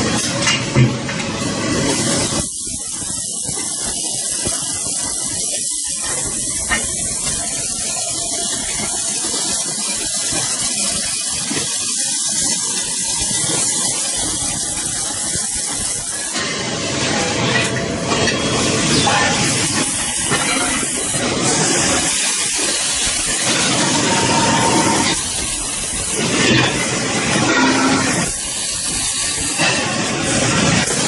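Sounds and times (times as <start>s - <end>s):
loud steady hiss: 0.0s - 31.0s.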